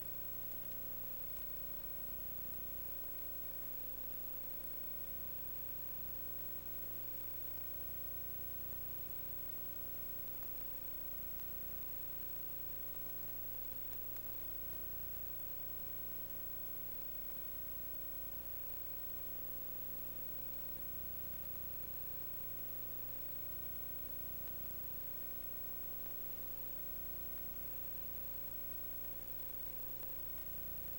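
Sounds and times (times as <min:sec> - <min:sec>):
low electrical hum: 0:00.0 - 0:30.9
steady hiss: 0:00.0 - 0:30.9.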